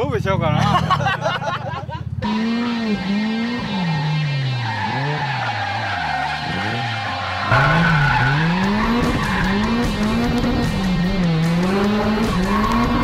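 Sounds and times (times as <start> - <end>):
tyres skidding: 0.7 - 13.0
car engine revving: 2.0 - 13.0.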